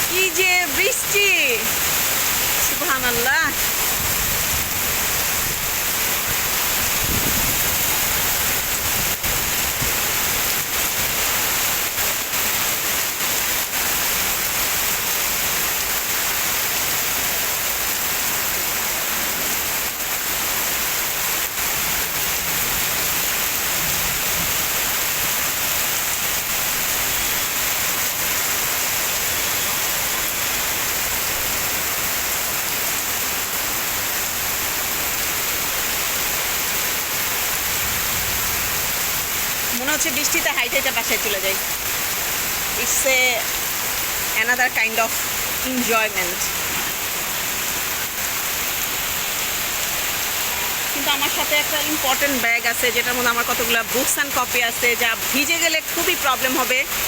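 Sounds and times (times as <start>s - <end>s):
heavy rain downpour: 0.0s - 57.0s.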